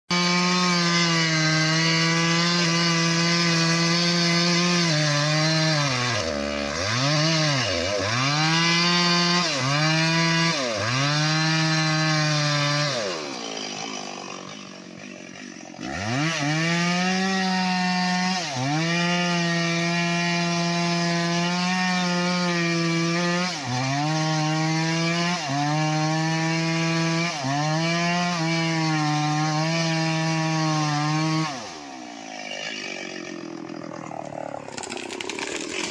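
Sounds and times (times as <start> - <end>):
chainsaw cutting wood: 0.1 - 35.9.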